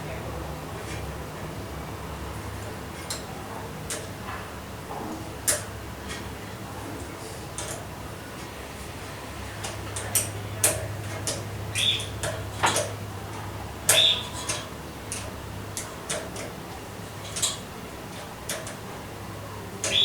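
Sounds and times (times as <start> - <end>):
air compressor humming: 0.0 - 20.0.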